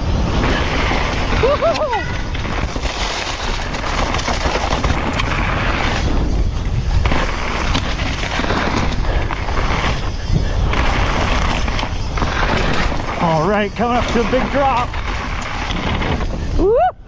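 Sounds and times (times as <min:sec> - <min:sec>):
low rumble over bumpy ground: 0:00.0 - 0:17.0
wind buffeting microphone: 0:00.0 - 0:17.0.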